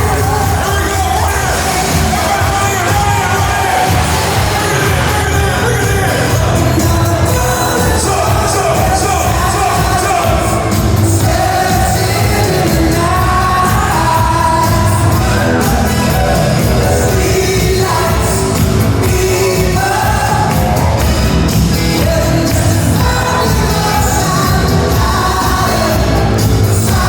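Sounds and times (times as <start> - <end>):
pop song with singer: 0.0 - 27.0.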